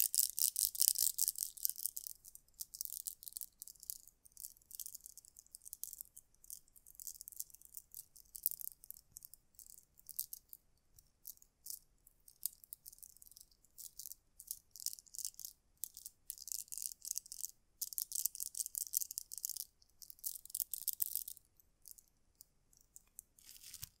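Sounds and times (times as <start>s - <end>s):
beads clicking together: 0.0s - 24.0s.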